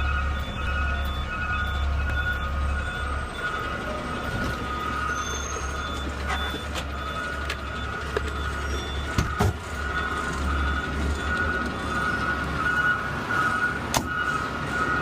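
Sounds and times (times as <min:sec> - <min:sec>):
garbage truck engine running: 0:00.0 - 0:15.0.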